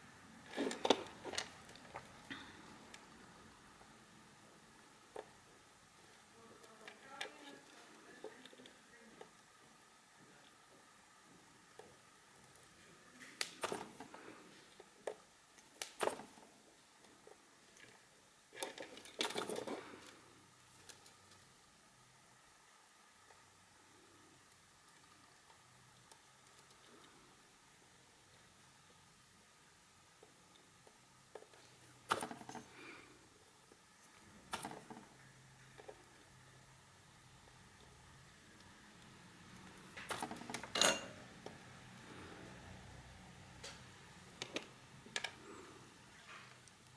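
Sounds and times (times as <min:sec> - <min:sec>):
faint room hiss: 0:00.0 - 0:46.9.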